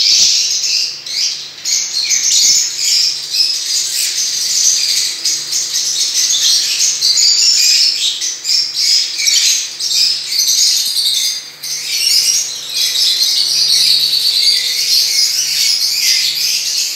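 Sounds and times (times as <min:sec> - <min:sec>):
finches chattering: 0:00.0 - 0:16.9.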